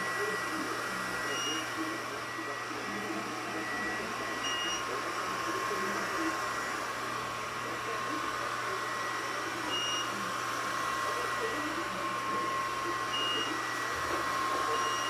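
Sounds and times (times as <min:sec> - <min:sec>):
robot vacuum cleaner running: 0:00.0 - 0:15.0.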